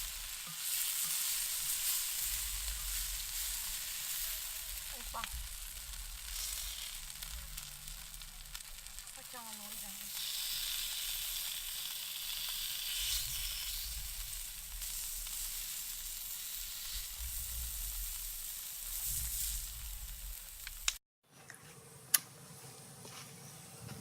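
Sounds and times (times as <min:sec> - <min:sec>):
kidneys sizzling in a pan: 0:00.0 - 0:21.0.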